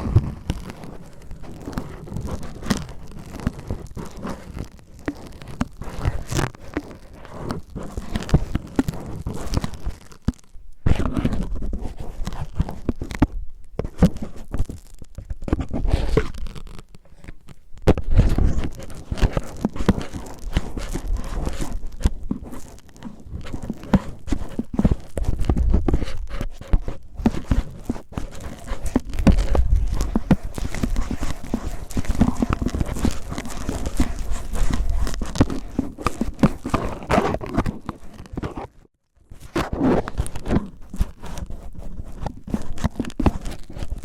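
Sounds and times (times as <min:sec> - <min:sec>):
cellophane crinkling on microphone: 0:00.0 - 0:44.0.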